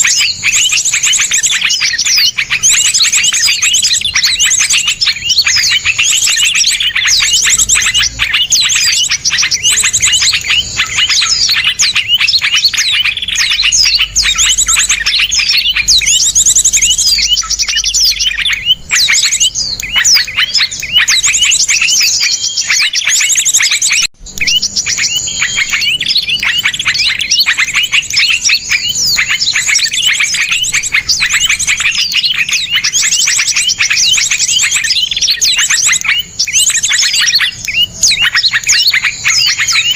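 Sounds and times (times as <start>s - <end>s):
songbirds rapid chirps and trills: 0.0s - 39.9s.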